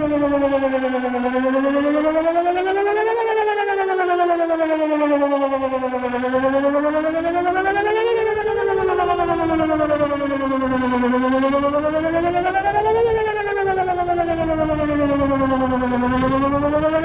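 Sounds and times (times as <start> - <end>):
warning siren wailing: 0.0 - 17.0.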